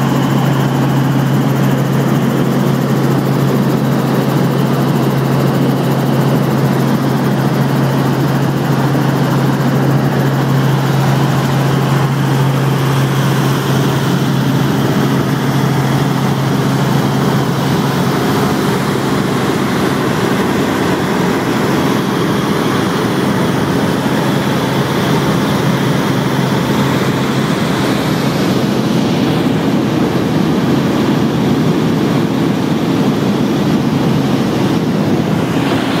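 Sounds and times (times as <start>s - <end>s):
helicopter engine and rotors droning: 0.0s - 36.0s.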